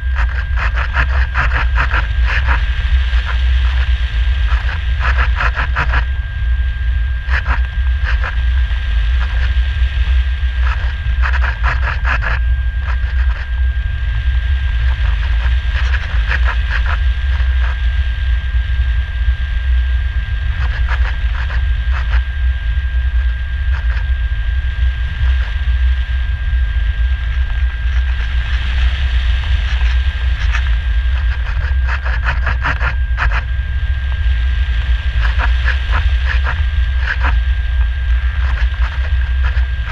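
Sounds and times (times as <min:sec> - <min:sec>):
crackling bursts: 0:00.0 - 0:39.9
wind rumble on microphone: 0:00.0 - 0:39.9.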